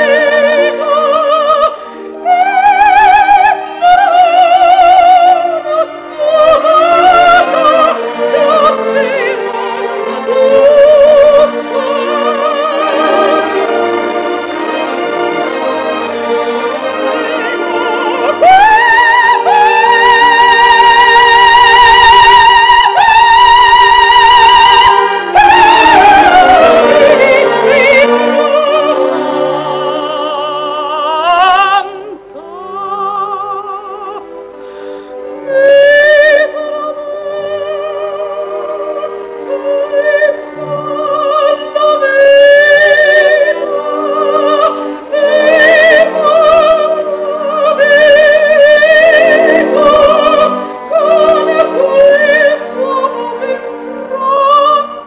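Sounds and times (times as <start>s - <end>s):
orchestra playing: 0.0s - 55.0s
soprano singing opera: 0.0s - 55.0s.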